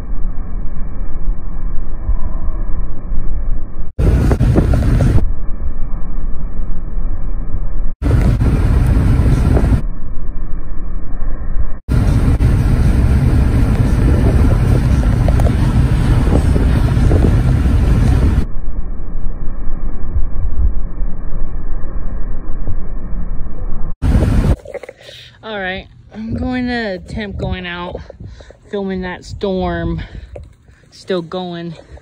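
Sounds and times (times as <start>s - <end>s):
car road and wind noise: 0.0s - 24.9s, 26.0s - 30.7s.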